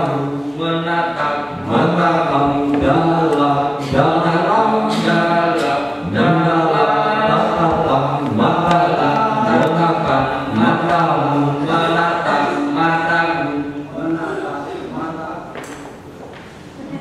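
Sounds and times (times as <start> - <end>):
person singing: 0.0 - 14.4.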